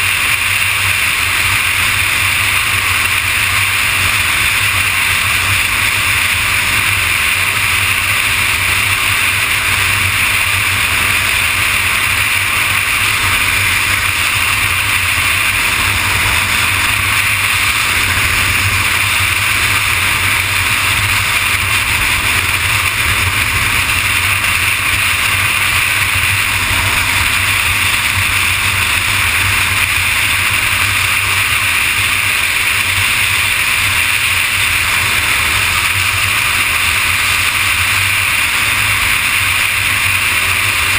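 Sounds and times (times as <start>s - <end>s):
motorcycle engine and road drone: 0.0s - 40.9s.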